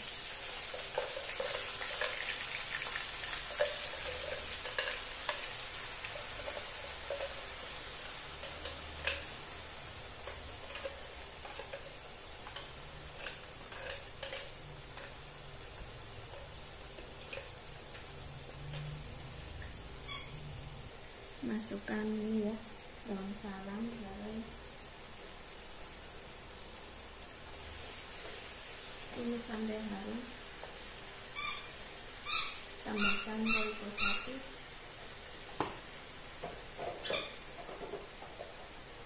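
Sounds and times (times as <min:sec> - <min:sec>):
paste sizzling in hot oil: 0:00.0 - 0:39.0.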